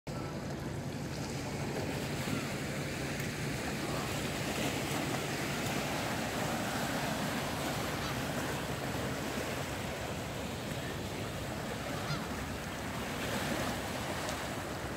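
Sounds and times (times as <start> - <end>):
waves lapping on rocks: 0.3 - 14.9.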